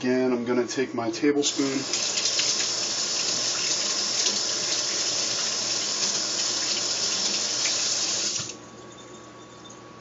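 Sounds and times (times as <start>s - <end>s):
faucet running: 1.4s - 10.0s.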